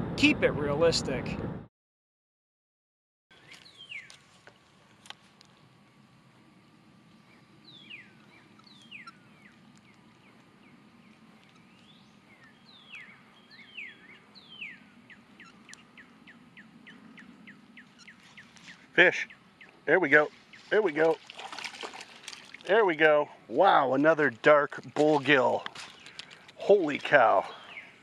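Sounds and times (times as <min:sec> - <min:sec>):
songbird singing: 0:03.3 - 0:28.0.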